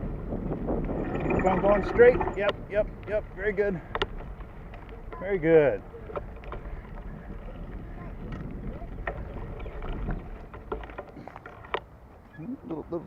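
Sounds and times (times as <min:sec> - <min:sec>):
bike clicks and rattles: 0:00.0 - 0:12.8
rumble of wind and tyres: 0:00.0 - 0:13.0.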